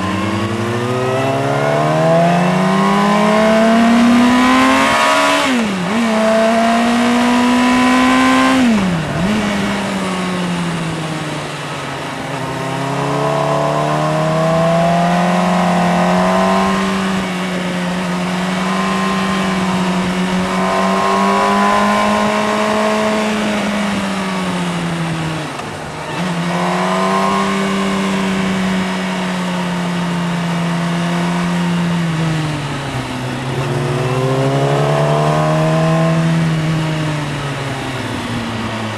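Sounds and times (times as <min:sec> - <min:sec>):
motorcycle engine revs: 0:00.0 - 0:38.9.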